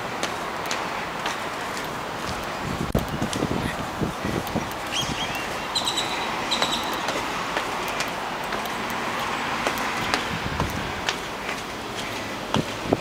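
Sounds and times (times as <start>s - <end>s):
footsteps on concrete stairs: 0.0s - 13.0s.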